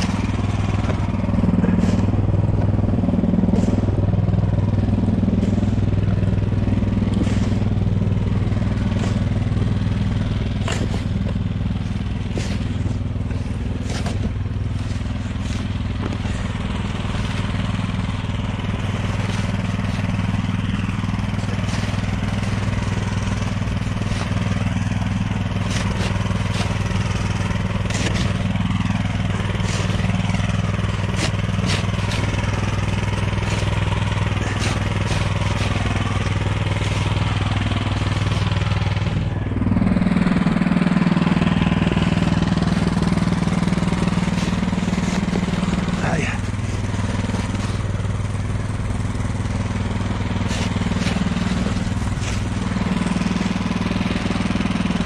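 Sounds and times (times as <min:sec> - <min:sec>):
plastic shovel scraping snow: 0:00.0 - 0:04.1, 0:05.3 - 0:39.2, 0:41.4 - 0:54.4
snowblower engine running: 0:00.0 - 0:55.0.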